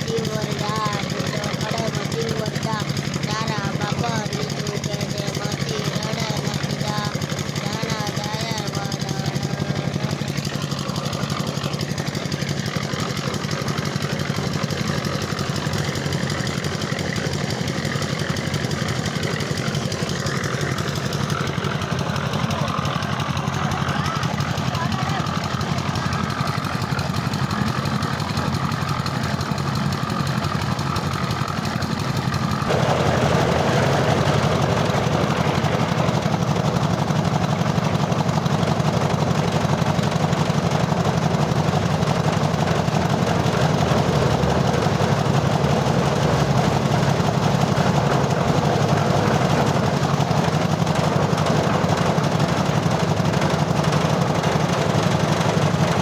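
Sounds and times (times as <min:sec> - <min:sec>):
concrete mixer engine rattling: 0:00.0 - 0:56.0.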